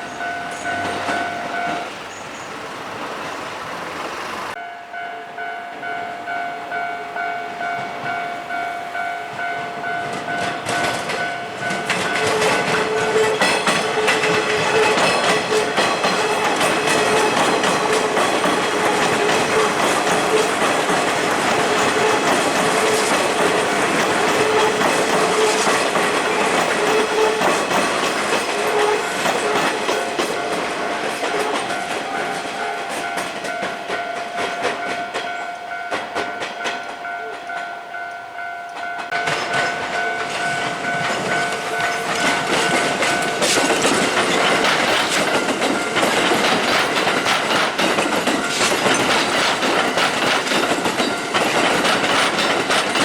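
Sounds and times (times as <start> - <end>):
train wheels clacking over rail joints: 0.0 - 4.6, 9.3 - 37.7, 38.7 - 53.0
crossing alarm ringing: 0.0 - 53.0.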